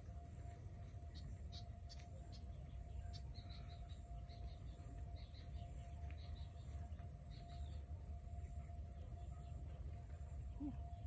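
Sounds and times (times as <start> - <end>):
high-pitched hum: 0.0 - 11.0
small birds chirping: 0.9 - 11.0.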